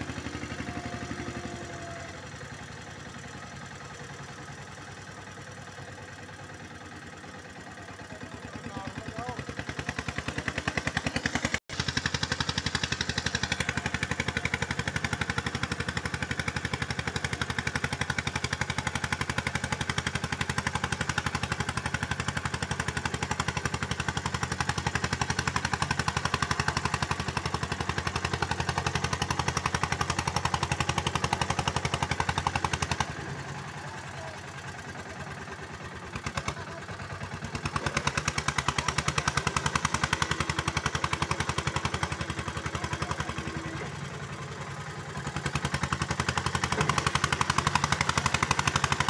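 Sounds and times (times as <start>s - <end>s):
tractor diesel engine chugging: 0.0s - 49.0s.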